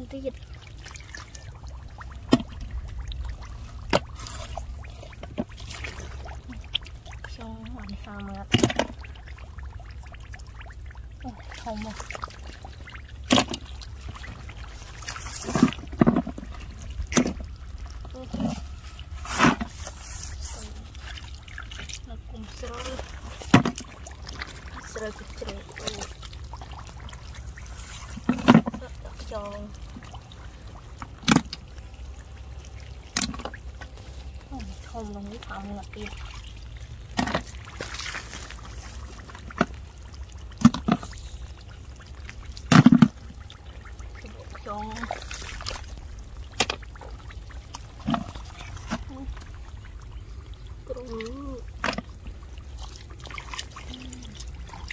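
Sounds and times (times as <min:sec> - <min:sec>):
splashes in muddy water: 0:00.0 - 0:54.9.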